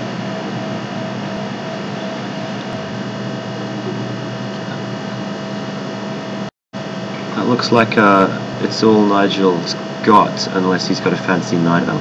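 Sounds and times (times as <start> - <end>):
background hum and hiss: 0.0 - 12.0
constant low tones: 0.0 - 12.0.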